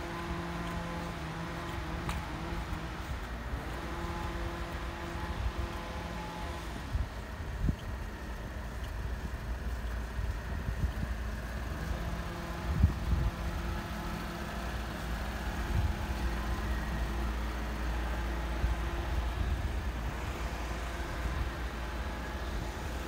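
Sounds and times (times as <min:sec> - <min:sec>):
low steady rumble: 0:00.0 - 0:23.0
vehicle engine hum: 0:00.0 - 0:23.0.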